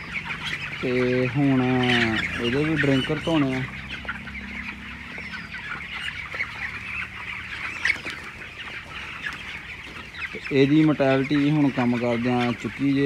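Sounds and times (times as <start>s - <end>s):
chickens cheeping and clucking: 0.0s - 13.0s.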